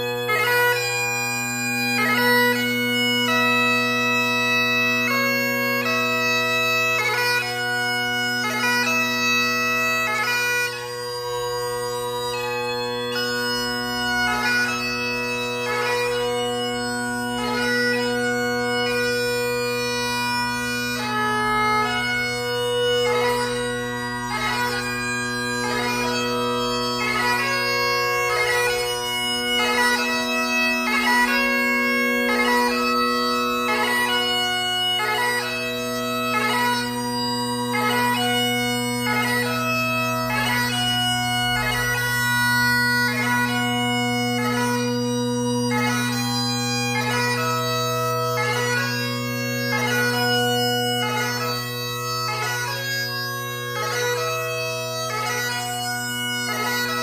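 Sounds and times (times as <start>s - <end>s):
bagpipe playing: 0.0s - 57.0s.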